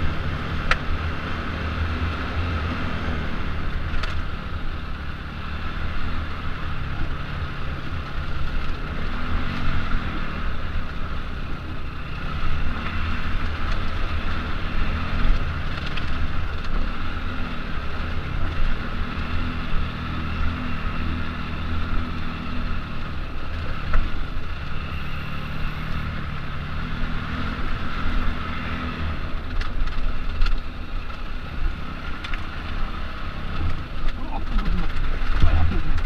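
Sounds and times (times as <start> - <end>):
motorcycle engine at low revs: 0.0 - 36.0.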